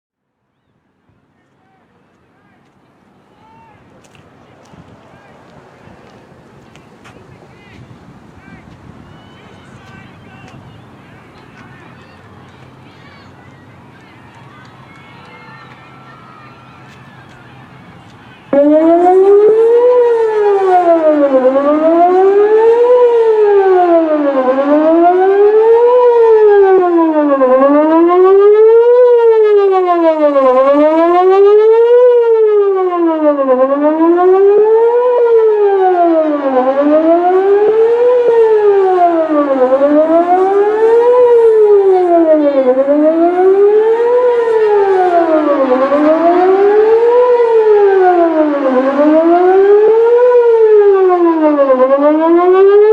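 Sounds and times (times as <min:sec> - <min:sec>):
warning siren wailing: 0:08.4 - 0:52.9.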